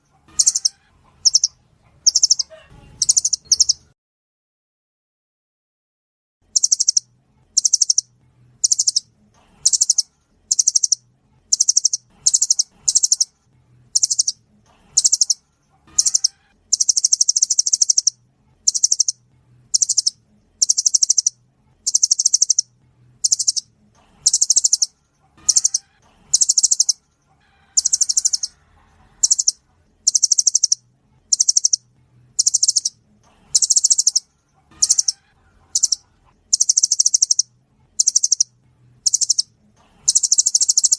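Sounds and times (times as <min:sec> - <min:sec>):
bird high-pitched trill: 0:00.3 - 0:03.9, 0:06.5 - 0:13.3, 0:14.0 - 0:14.4, 0:15.0 - 0:27.0, 0:27.6 - 0:28.6, 0:29.2 - 0:40.9.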